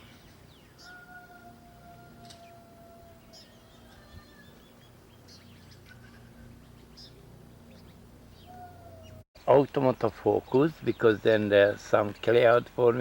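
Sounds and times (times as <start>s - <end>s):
faint birds chirping: 0.0s - 13.0s
low steady hum: 0.0s - 13.0s.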